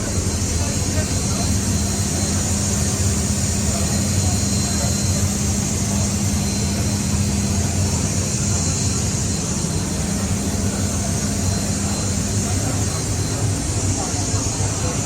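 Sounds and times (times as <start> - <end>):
aircraft engine running: 0.0 - 15.0.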